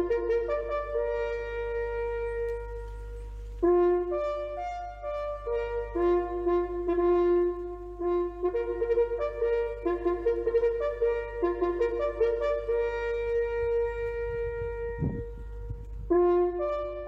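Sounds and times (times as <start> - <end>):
brass instrument melody: 0.0 - 17.0.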